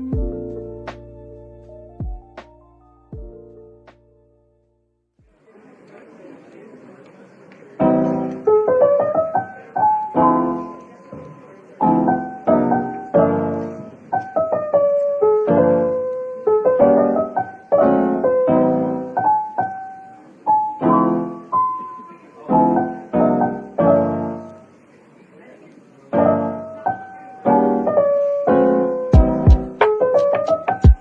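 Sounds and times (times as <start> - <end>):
piano music: 0.0 - 5.0, 7.8 - 24.7, 26.1 - 31.0.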